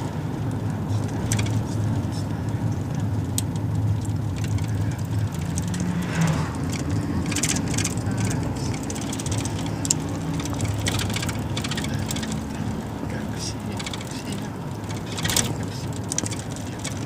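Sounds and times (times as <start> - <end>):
minibus engine running: 0.0 - 17.0
short rattles: 0.0 - 17.0.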